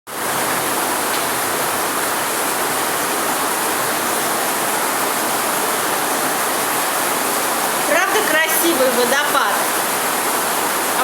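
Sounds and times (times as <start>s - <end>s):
waterfall splashing: 0.1s - 11.0s.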